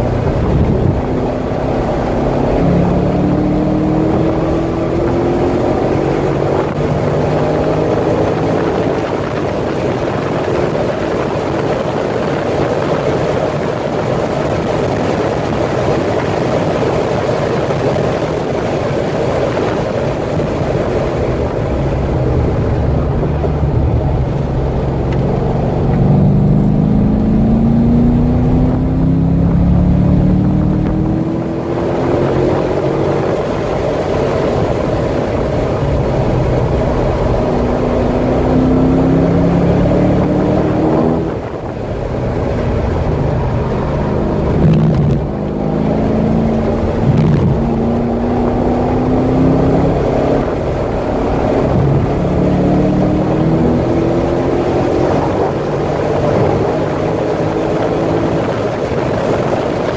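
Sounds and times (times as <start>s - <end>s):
car engine accelerating: 0.0s - 59.9s
wind and road noise: 0.0s - 59.9s.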